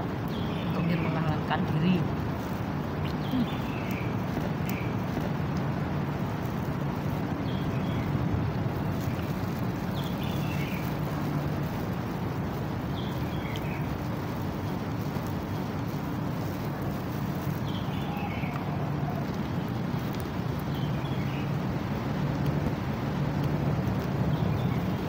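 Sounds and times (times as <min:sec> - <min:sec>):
birds chirping: 0:00.0 - 0:23.3, 0:23.9 - 0:25.0
rain hiss: 0:00.0 - 0:25.0.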